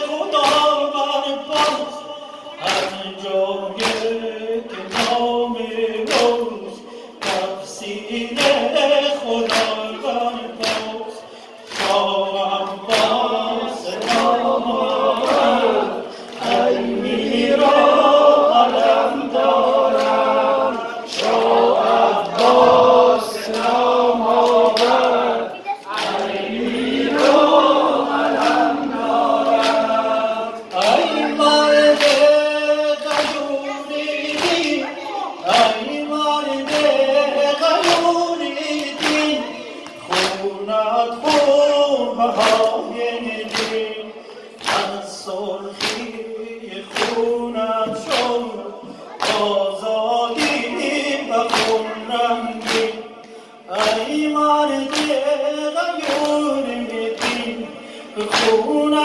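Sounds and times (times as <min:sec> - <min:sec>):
man singing lament: 0:00.0 - 0:25.1, 0:26.7 - 0:59.0
men singing along: 0:00.0 - 0:59.0.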